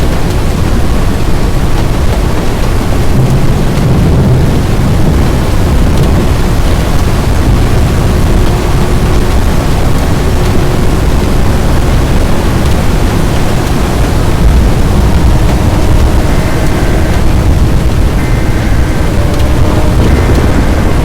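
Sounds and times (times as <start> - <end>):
rain: 0.0 - 21.0
storm wind: 0.0 - 21.0
wind buffeting microphone: 0.0 - 21.0.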